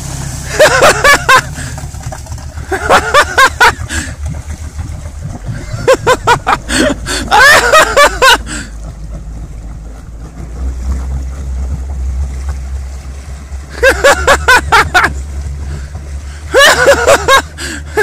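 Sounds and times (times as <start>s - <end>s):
car engine rumbling: 0.0s - 18.0s
exhaust bubbling underwater: 0.0s - 18.0s
water sloshing and churning: 0.0s - 18.0s.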